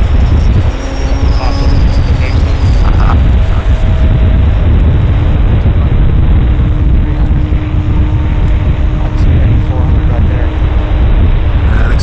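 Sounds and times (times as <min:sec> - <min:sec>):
faint engine and propeller hum: 0:00.0 - 0:12.0
model plane engine roar: 0:00.0 - 0:12.0
wind buffeting: 0:00.0 - 0:12.0.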